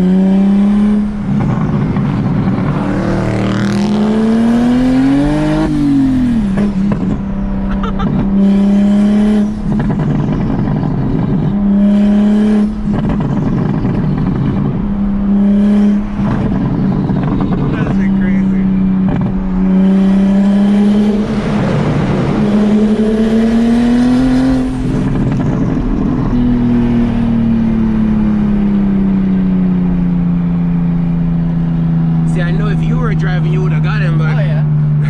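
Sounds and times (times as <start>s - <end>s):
car engine pulling hard: 0.0s - 35.0s.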